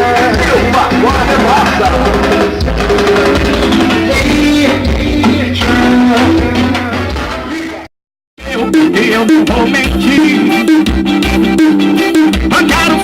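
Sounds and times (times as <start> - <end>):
heavy bass from subwoofers: 0.0 - 13.0
song with singing and drums: 0.0 - 13.0.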